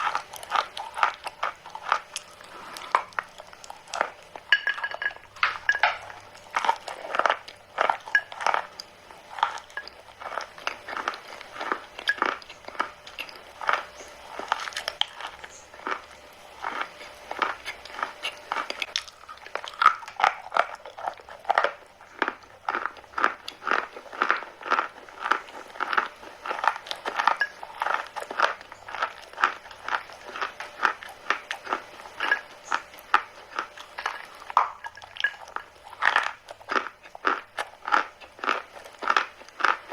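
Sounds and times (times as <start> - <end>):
chalk being chewed: 0.0 - 4.6, 5.7 - 39.9.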